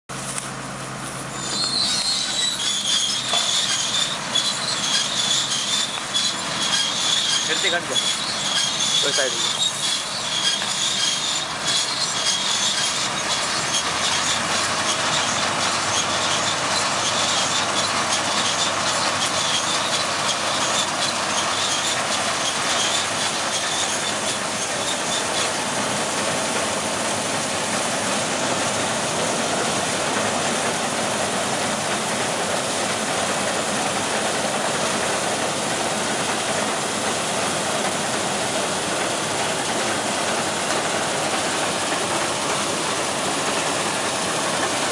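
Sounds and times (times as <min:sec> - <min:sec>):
combine harvester running: 0:00.1 - 0:44.9
high rattle: 0:01.3 - 0:44.9.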